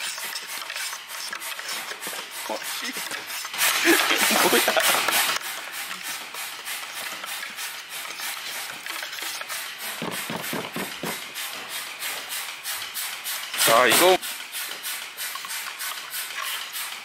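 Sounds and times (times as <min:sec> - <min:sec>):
compressed air blow gun hissing: 0:00.8 - 0:17.0.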